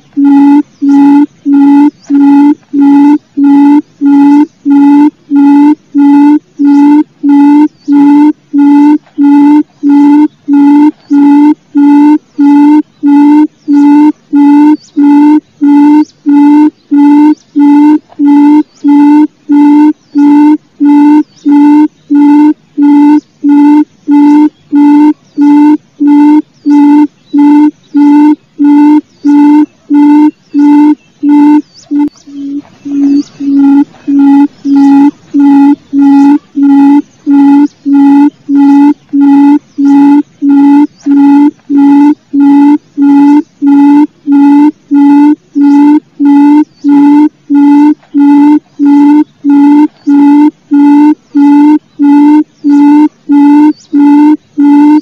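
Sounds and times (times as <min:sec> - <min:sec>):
bird hooting: 0:00.0 - 0:55.0.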